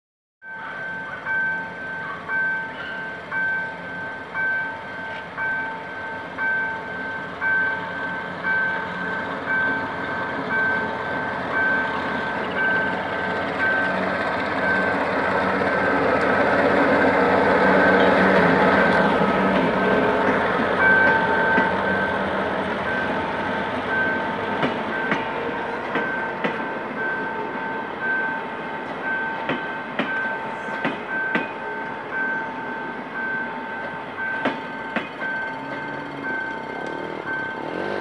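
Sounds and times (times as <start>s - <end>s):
diesel train passing: 0.4s - 38.0s
two-tone crossing alarm beeping: 0.4s - 38.0s.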